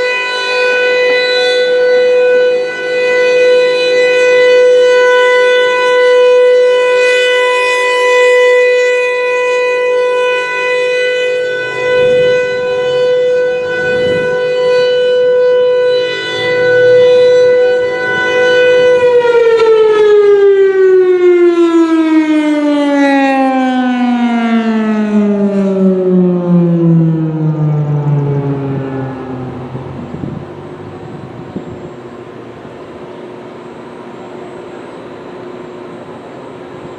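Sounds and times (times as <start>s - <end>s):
warning siren alert tone: 0.0s - 35.4s.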